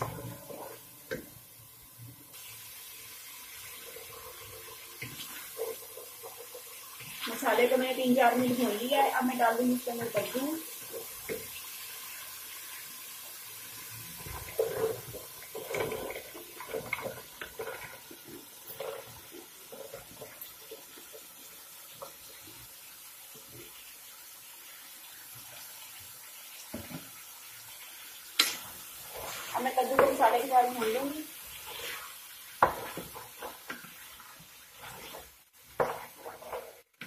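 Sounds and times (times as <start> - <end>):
frying hiss: 0.0 - 37.0.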